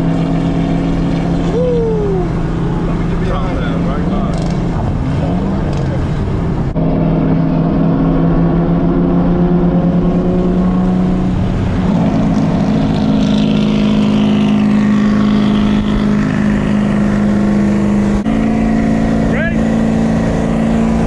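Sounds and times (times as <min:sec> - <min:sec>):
car engine from inside cabin: 0:00.0 - 0:21.0.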